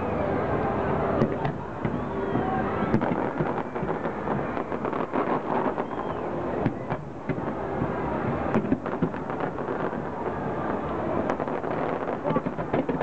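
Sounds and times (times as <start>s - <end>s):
distant fireworks bangs and crackles: 0.0s - 13.0s
steady background rumble: 0.0s - 13.0s.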